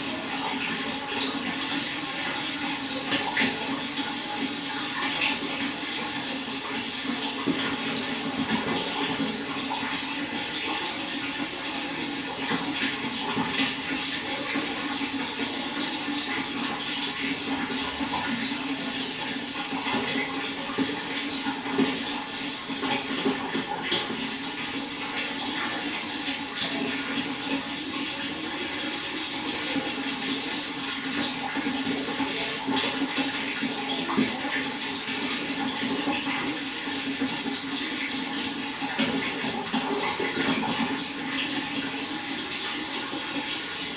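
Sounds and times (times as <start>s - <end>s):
running water splashing: 0.0s - 43.9s.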